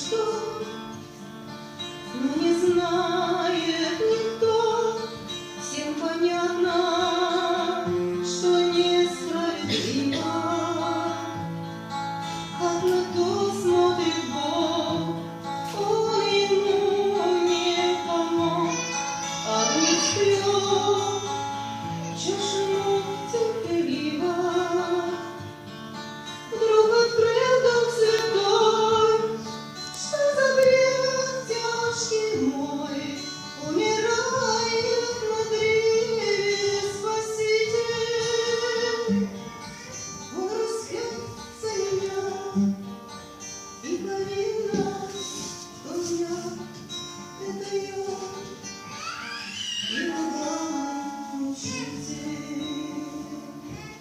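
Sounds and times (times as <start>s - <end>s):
woman singing slow melody: 0.0s - 1.1s, 2.0s - 11.5s, 12.4s - 25.5s, 26.5s - 43.0s, 43.8s - 54.0s
plucked acoustic guitar: 0.0s - 54.0s.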